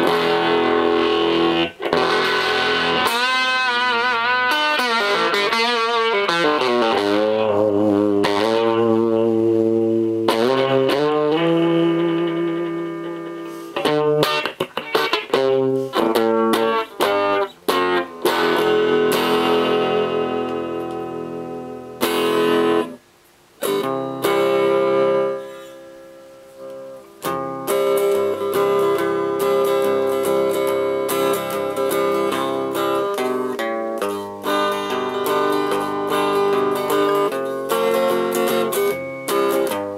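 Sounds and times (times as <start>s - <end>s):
electric guitar through tube amplifier: 0.0s - 39.9s.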